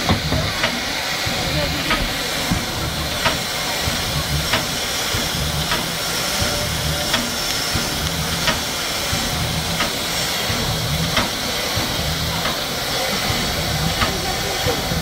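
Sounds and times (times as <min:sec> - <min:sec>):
low uneven pulsing: 0:00.0 - 0:15.0
steam locomotive hissing: 0:00.0 - 0:15.0.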